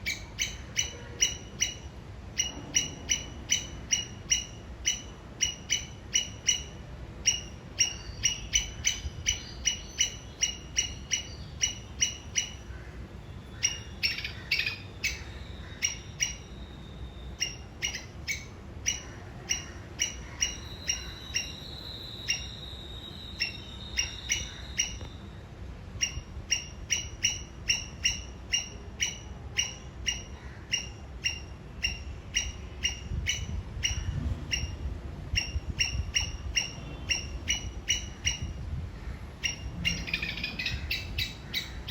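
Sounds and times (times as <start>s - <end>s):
squirrel chirping alarm call: 0.0s - 38.8s, 39.4s - 41.9s.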